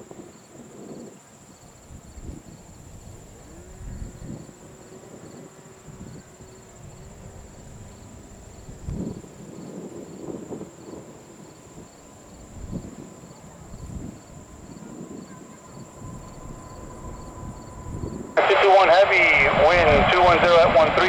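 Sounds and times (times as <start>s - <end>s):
crickets trilling: 0.0s - 19.1s
wind buffeting microphone: 0.0s - 21.0s.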